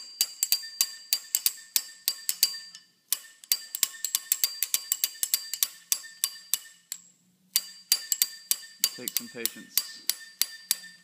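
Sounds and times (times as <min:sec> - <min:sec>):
slide hammer clanking metal: 0:00.0 - 0:11.0.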